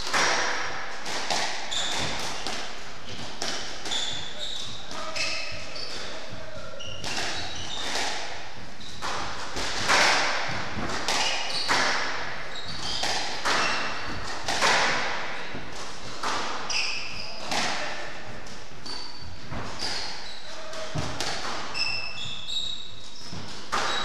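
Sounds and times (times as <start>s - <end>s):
squash ball hitting rackets and walls: 0.0s - 24.0s
shoes squeaking on wooden floor: 1.6s - 17.6s, 18.3s - 24.0s.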